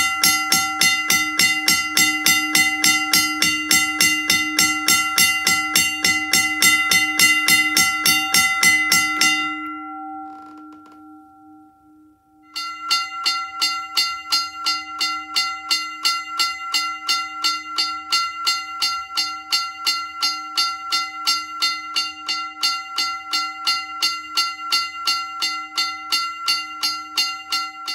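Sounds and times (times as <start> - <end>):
mechanical crossing bell ringing: 0.0 - 27.9.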